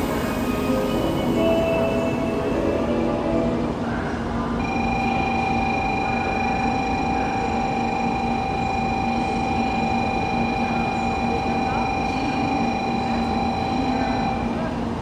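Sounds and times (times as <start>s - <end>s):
low hum of train: 0.0s - 15.0s.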